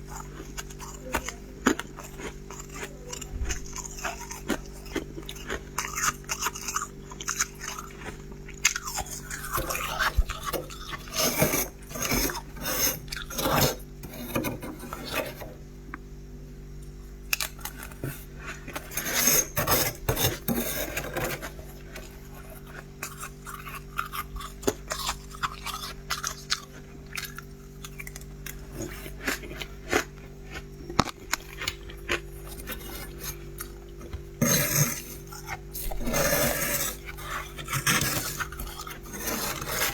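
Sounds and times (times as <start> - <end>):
frost being chewed crunching: 0.0 - 14.0, 16.8 - 39.9
steady low hum: 0.0 - 39.9.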